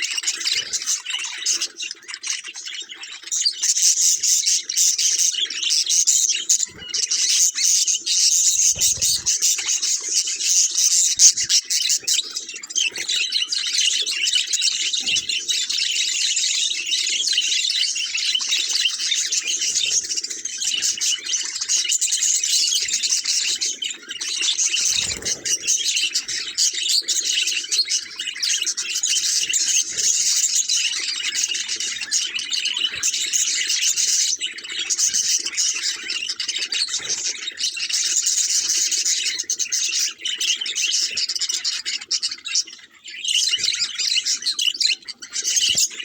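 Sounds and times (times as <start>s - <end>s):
budgerigars chattering: 0.0s - 46.0s.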